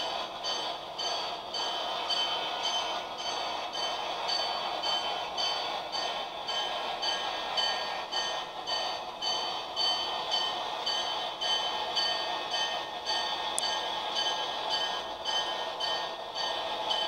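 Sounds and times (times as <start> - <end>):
locomotive bell ringing: 0.0 - 17.0
model train wheels rumbling: 0.0 - 17.0.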